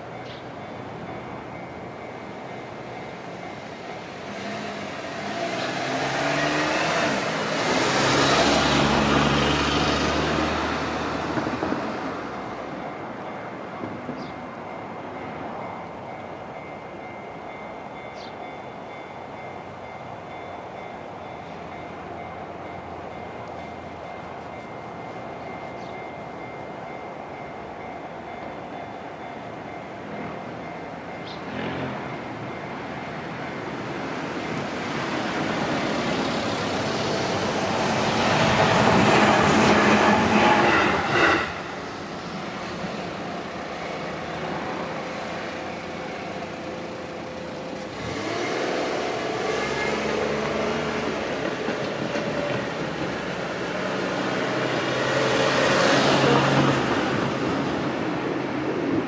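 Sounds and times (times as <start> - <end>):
electric train passing: 0.0 - 59.0
train with steady pitched hum: 0.0 - 59.0.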